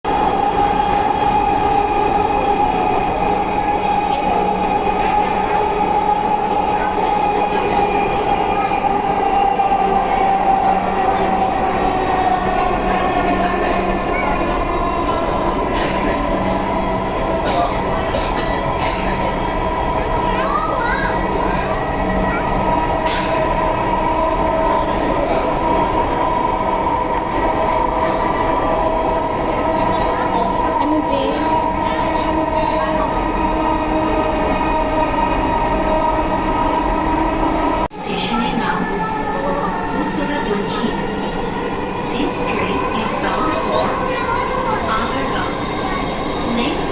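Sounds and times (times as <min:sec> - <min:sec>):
metro train rumble and hiss: 0:00.1 - 0:46.9
train whine: 0:00.1 - 0:46.9.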